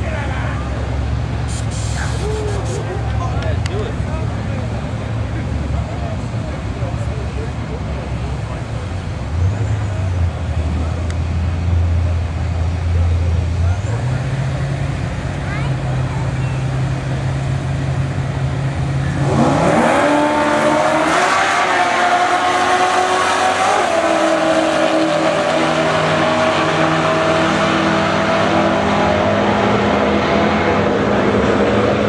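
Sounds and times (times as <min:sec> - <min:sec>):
truck engines idling and launching: 0:00.8 - 0:32.0.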